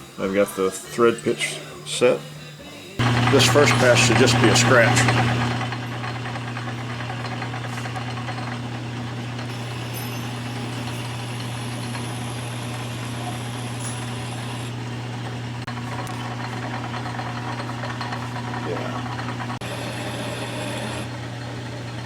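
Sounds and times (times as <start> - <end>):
metal lathe humming: 0.0 - 22.0.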